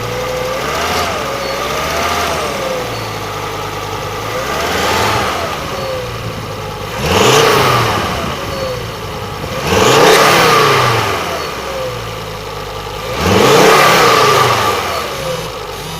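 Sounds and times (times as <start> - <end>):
car engine idling and revving: 0.0 - 15.9.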